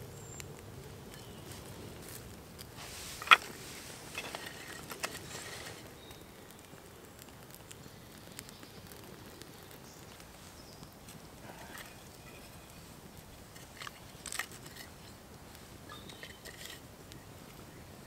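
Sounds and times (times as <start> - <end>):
small fire crackling: 0.0 - 18.0
twigs snapping and rustling: 0.4 - 17.6.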